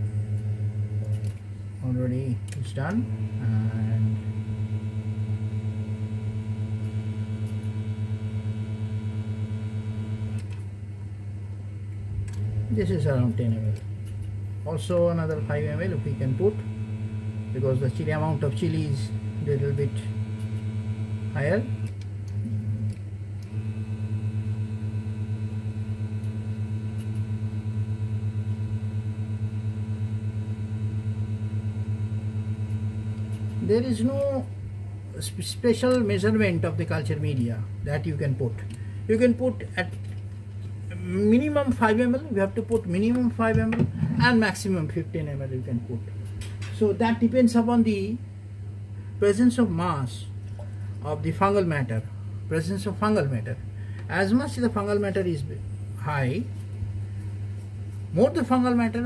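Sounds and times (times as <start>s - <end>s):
fluttering electrical hum: 0.0s - 59.0s.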